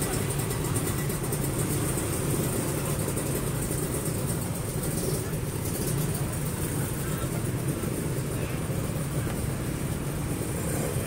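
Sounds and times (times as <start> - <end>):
motorcycles idling: 0.0 - 11.0
voices: 0.0 - 11.0.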